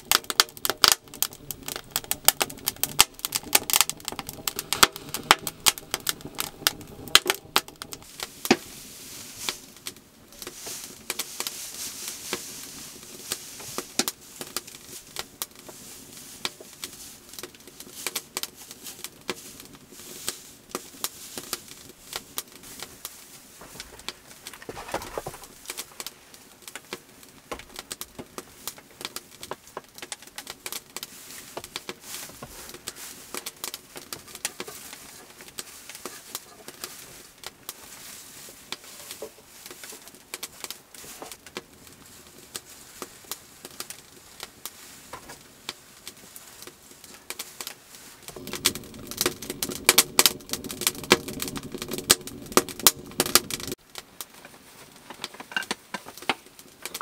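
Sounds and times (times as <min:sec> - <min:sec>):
sacking and hay rustling: 0:00.0 - 0:55.1
wood fire crackling in stove: 0:00.0 - 0:57.0.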